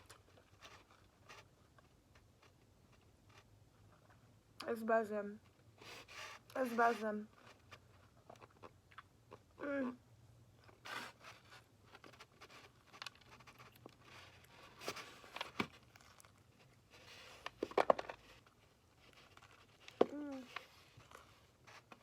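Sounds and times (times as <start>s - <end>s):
scraping or crinkling: 0.0s - 4.2s, 5.4s - 8.7s, 10.6s - 22.0s.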